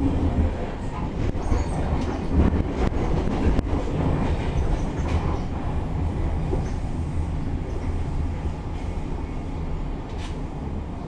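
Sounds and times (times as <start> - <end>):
rail car rumble: 0.0 - 11.0.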